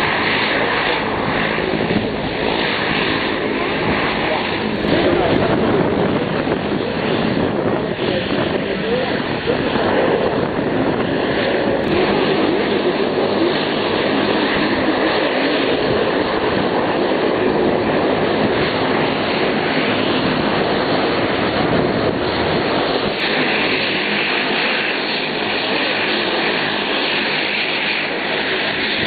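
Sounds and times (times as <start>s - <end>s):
aircraft engine noise: 0.0s - 29.0s.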